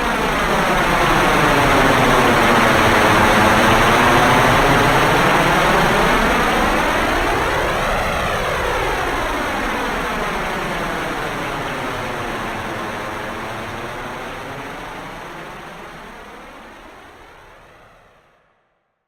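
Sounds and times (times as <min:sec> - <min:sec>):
jet airplane flying past: 0:00.0 - 0:17.9.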